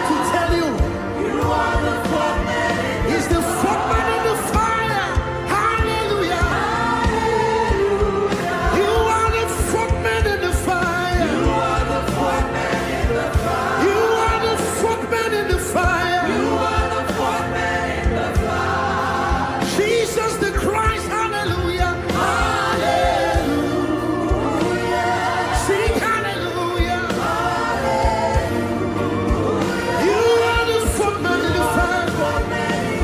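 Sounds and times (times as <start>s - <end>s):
keyboard and bass chords: 0.0s - 33.0s
voices singing: 0.0s - 33.0s.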